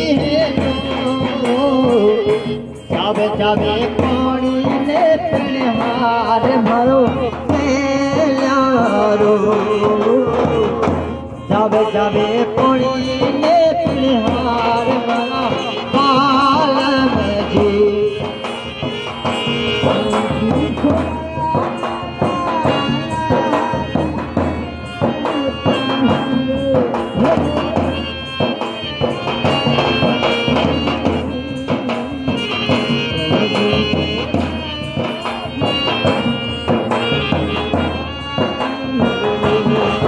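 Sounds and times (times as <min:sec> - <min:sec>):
percussion beating rhythm: 0:00.0 - 0:40.0.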